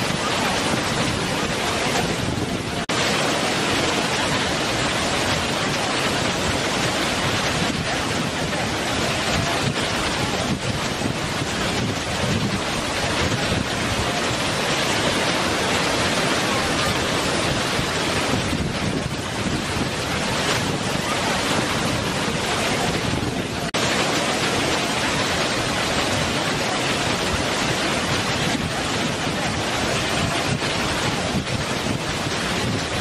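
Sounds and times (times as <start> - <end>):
waterfall rushing over rock: 0.0 - 33.0.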